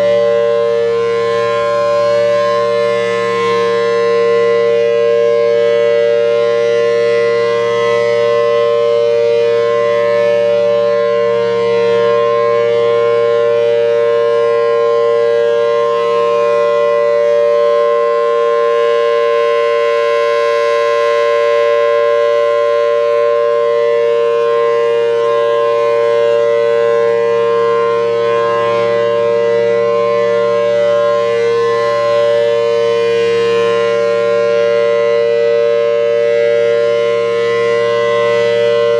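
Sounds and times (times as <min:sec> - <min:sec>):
civil defense siren dual tone: 0:00.0 - 0:38.9.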